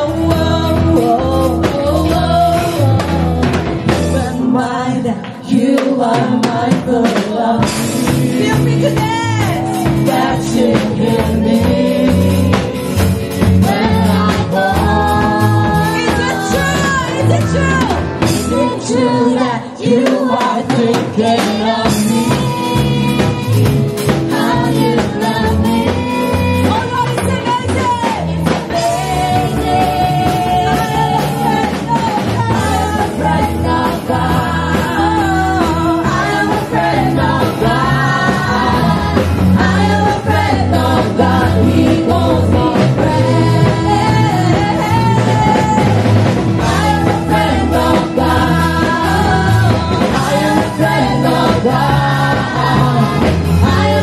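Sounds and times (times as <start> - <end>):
drums: 0.0 - 54.0
rock band playing: 0.0 - 54.0.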